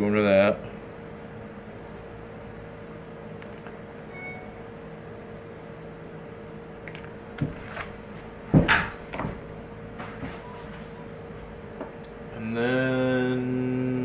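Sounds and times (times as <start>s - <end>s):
steady faint hum: 0.0s - 14.0s.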